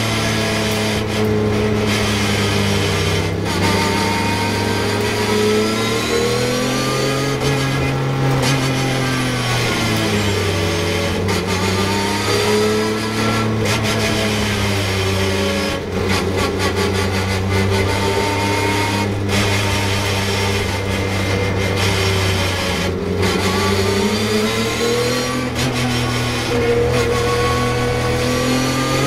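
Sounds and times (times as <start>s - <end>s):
race car engine pulling: 0.0s - 29.0s.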